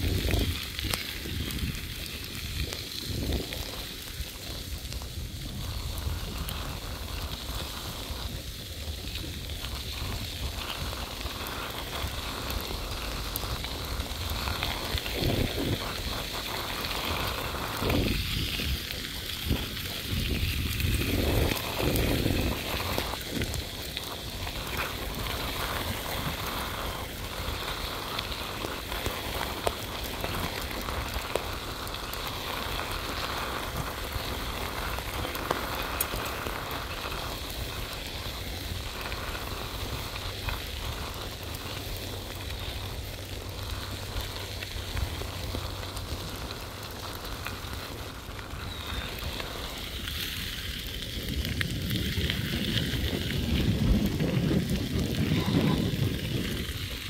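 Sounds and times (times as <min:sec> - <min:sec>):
bicycle tyres crunching on gravel: 0:00.0 - 0:57.0.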